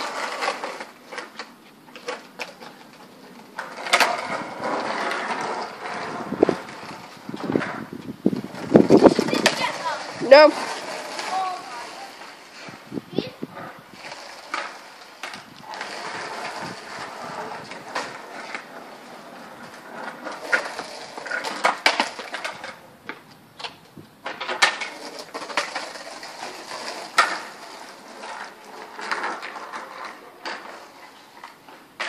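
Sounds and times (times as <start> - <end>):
skateboard deck clacking on ground: 0.0 - 12.6, 13.5 - 32.0
skateboard wheels rolling on pavement: 0.0 - 32.0.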